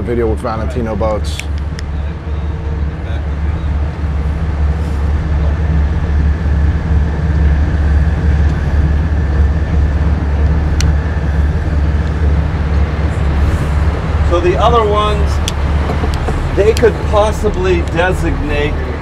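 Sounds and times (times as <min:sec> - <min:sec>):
tugboat diesel engine droning: 0:00.0 - 0:19.0.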